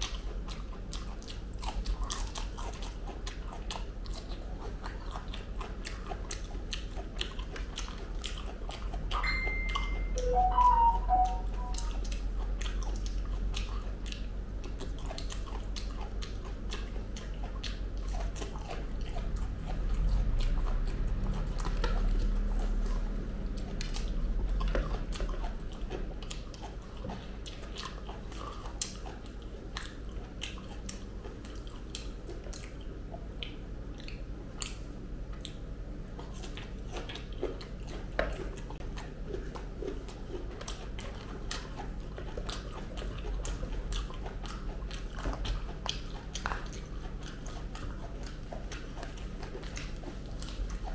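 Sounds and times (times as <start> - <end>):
wet mouth clicks and smacks: 0.0 - 10.0, 11.1 - 35.6, 36.2 - 50.9
chewing fruit: 0.0 - 50.9.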